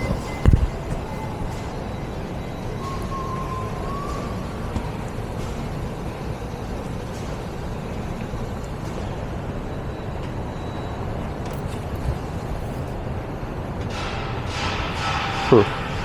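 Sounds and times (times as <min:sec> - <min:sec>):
diesel van engine idling: 0:00.0 - 0:13.8.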